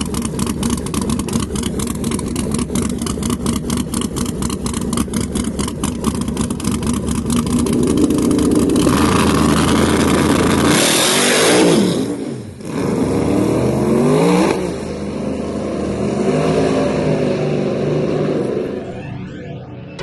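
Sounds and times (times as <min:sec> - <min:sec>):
drag race car engine: 0:00.0 - 0:20.0.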